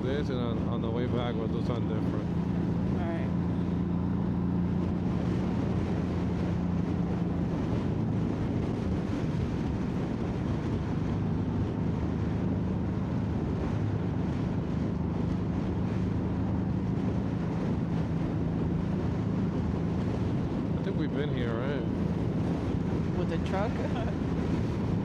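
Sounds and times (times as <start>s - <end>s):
motorcycle engine cruising: 0.0s - 25.0s
wind rushing over microphone: 0.0s - 25.0s.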